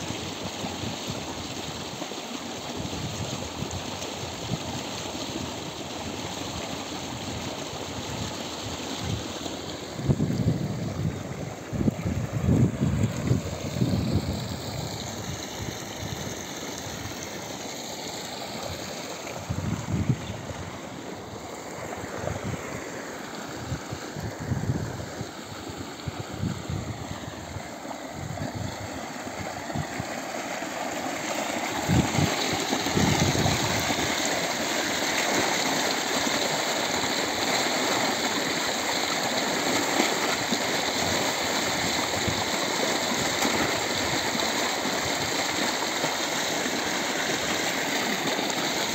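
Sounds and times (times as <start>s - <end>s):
water gushing from pipe: 0.0s - 48.9s.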